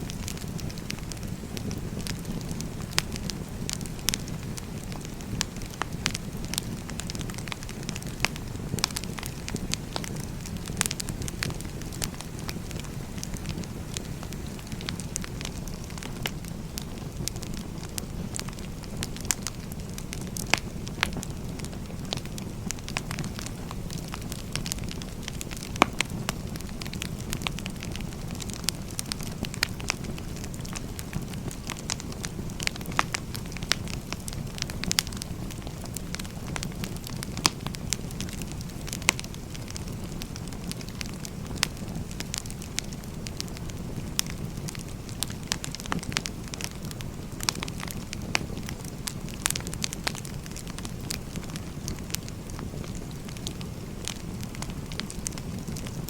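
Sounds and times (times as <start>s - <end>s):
fire flame rushing: 0.0s - 56.0s
firewood popping and crackling: 0.0s - 56.0s.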